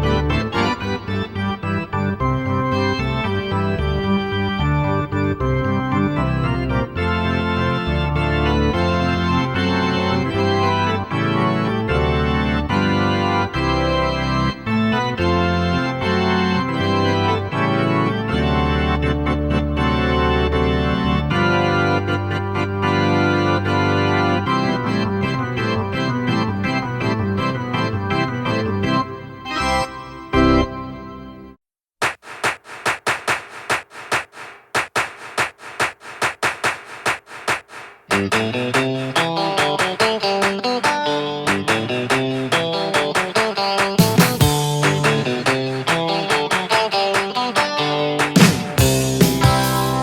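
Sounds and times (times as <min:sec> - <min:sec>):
organ music: 0:00.0 - 0:31.5, 0:38.5 - 0:50.0.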